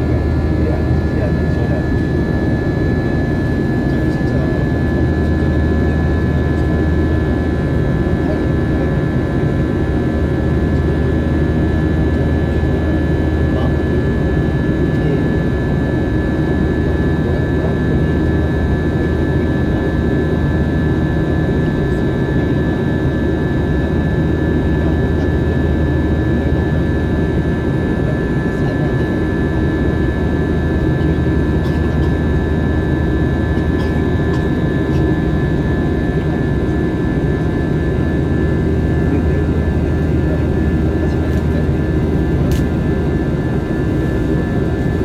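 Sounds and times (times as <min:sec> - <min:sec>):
airliner engine rumble: 0:00.0 - 0:45.0.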